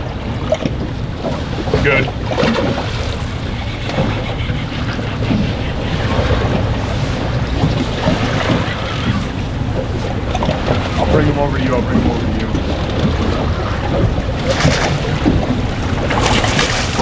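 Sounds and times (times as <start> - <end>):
waves washing against boat: 0.0 - 17.0
wind buffeting microphone: 0.0 - 17.0.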